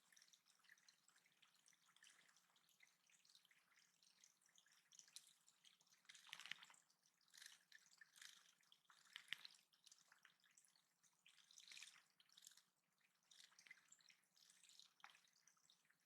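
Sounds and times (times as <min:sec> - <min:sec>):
water dripping and trickling: 0:00.0 - 0:16.0.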